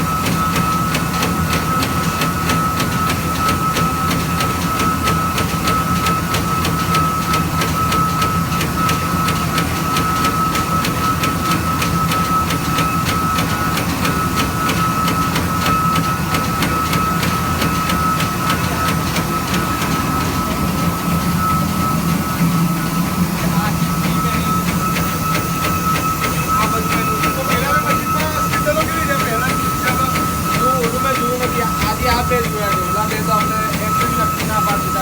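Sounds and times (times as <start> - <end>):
high spindle whine: 0.0 - 35.0
low machine hum: 0.0 - 35.0.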